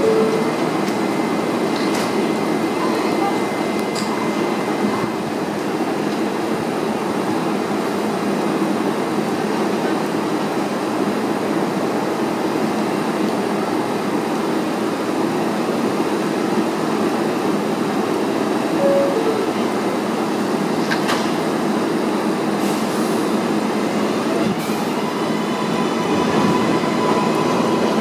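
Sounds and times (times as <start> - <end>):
subway train equipment rushing: 0.0 - 28.0.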